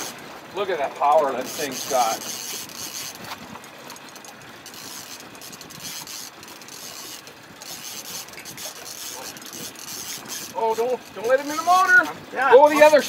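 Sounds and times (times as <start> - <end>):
fishing reel cranking: 1.0 - 13.0.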